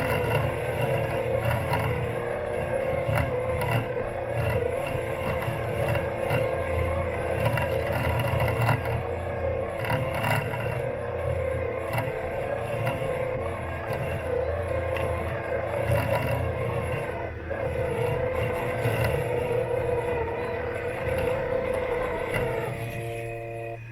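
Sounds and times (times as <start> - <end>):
electric motors whining: 0.0 - 23.9.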